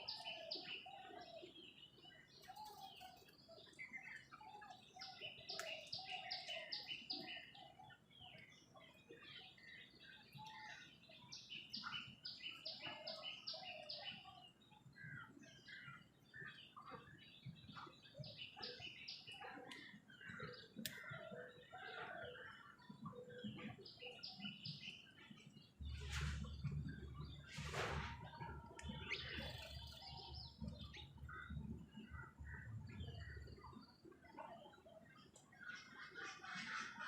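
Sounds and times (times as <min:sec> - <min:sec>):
birds chirping and chattering: 0:00.0 - 0:37.0.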